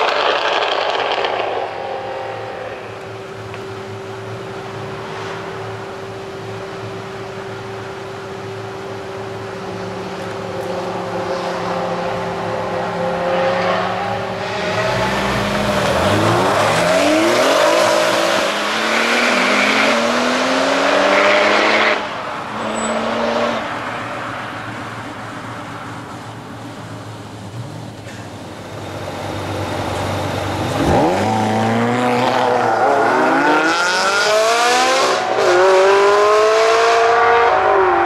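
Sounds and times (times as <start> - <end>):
car engines idling: 0.0 - 20.2, 20.8 - 33.3
sports car engines revving and accelerating: 0.0 - 38.0.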